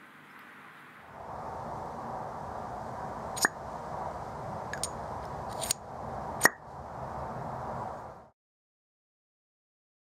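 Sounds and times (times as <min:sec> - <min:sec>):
steady background noise: 0:00.0 - 0:08.3.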